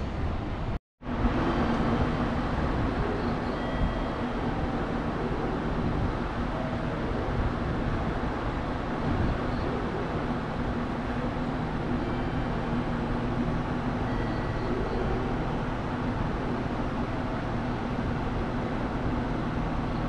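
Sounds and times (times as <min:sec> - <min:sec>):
station background rumble: 0:00.0 - 0:20.0.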